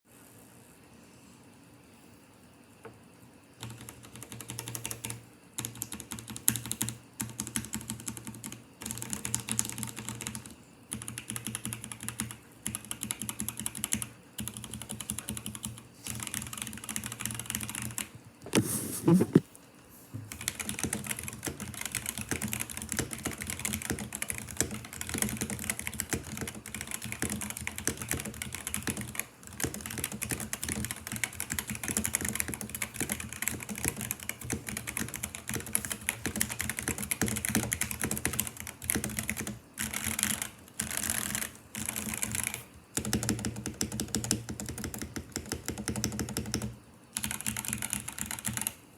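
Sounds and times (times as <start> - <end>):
typing on mechanical keyboard: 3.6 - 18.1, 20.3 - 48.8.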